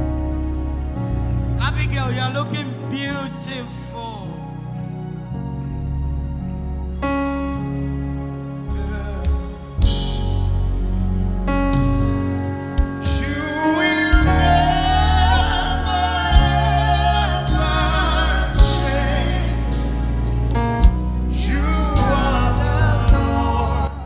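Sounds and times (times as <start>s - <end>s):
gospel singing: 0.0s - 5.0s, 8.7s - 24.0s.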